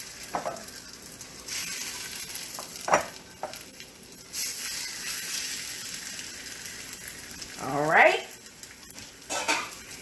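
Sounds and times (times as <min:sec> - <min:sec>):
meat sizzling in a wok: 0:00.0 - 0:10.0.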